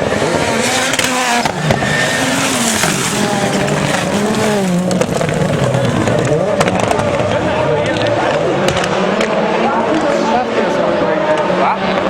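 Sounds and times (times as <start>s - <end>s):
racing car engines: 0.0s - 12.0s
tyre noise on track: 0.0s - 12.0s.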